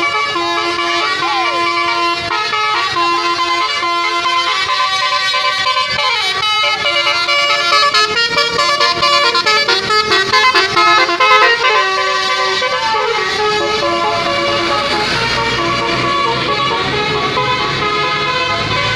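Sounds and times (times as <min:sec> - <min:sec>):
musical bus horn melody: 0:00.0 - 0:18.9.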